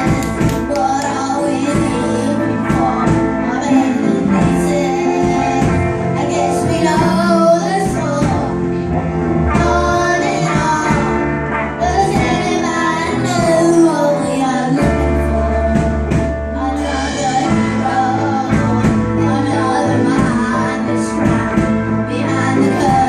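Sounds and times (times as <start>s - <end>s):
instrumental accompaniment: 0.0s - 23.0s
singing voices: 0.0s - 23.0s.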